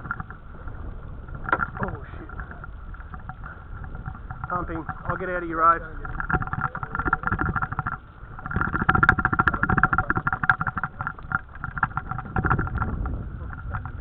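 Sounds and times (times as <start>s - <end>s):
outboard motor pulsing hum: 0.0s - 14.0s.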